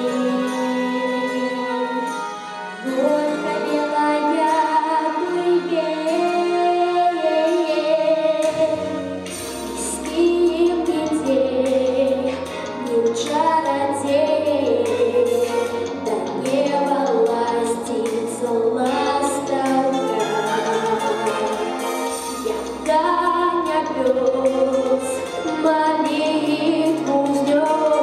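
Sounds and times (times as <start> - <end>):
boy singing into microphone: 0.0 - 8.7, 9.8 - 21.7, 22.4 - 28.0
recorded backing track: 0.0 - 28.0.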